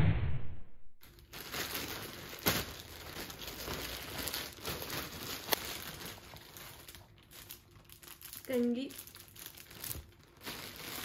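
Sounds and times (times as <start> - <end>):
plastic bag crinkling and tearing: 1.0 - 11.0.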